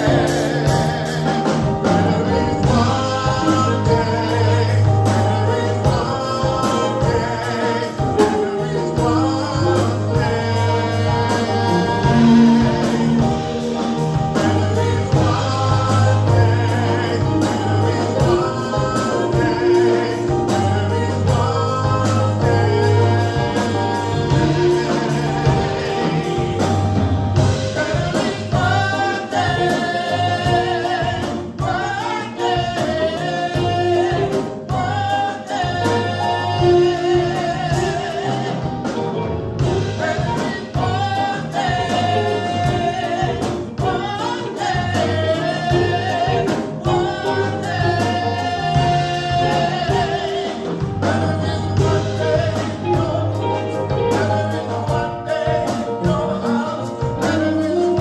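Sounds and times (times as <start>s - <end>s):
held bass notes: 0.0s - 58.0s
singers singing: 0.0s - 58.0s
steady drum beat: 0.0s - 58.0s.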